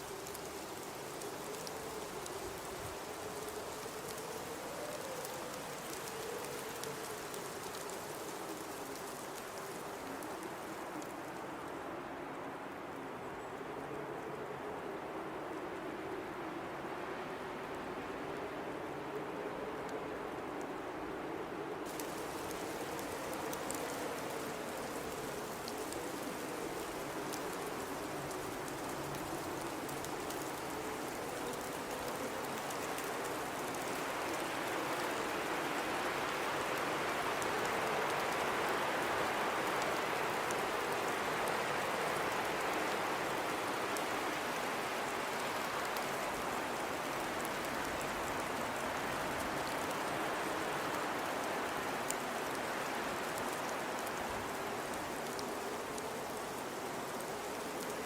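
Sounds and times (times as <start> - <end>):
faint wavering wind howl: 0.0 - 58.0.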